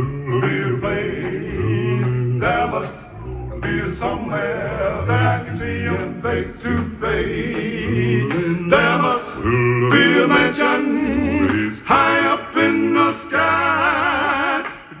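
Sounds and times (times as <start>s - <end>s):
male a cappella singing: 0.0s - 15.0s.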